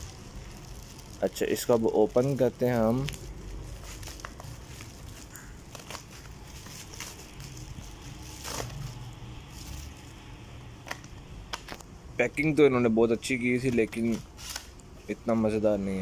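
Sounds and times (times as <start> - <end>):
bubble wrap crinkling and rustling: 0.0 - 11.8, 13.6 - 16.0.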